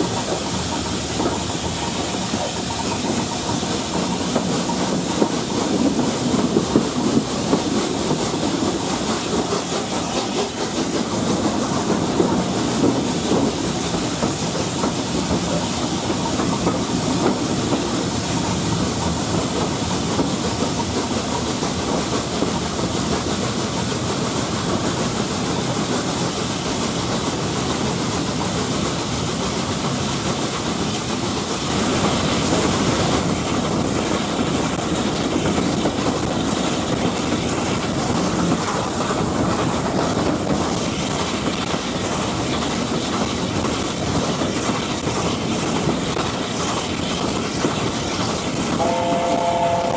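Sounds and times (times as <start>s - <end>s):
steam hiss: 0.0s - 49.9s
steam train wheels clattering on rail: 0.0s - 49.9s.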